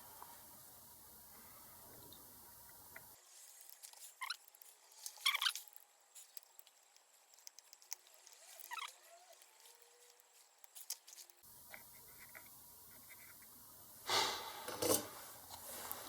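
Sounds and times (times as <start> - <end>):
soldering crackles and clicks: 0.0 - 14.0.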